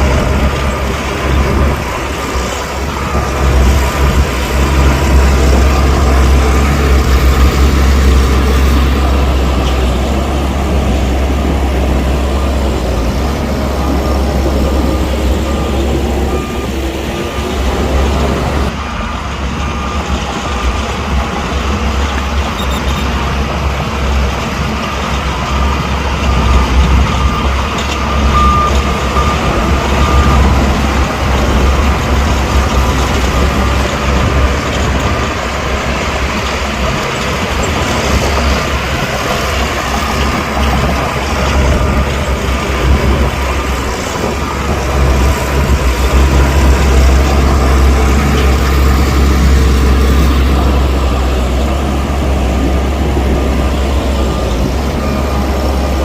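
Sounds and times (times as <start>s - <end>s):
diesel machinery engine rumble: 0.0s - 56.0s
reversing alarm beeping: 0.0s - 56.0s.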